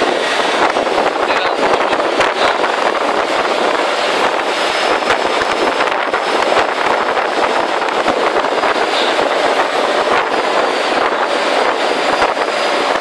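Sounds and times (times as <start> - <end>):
boat engine and water rushing: 0.0 - 13.0
wind on microphone: 0.0 - 13.0.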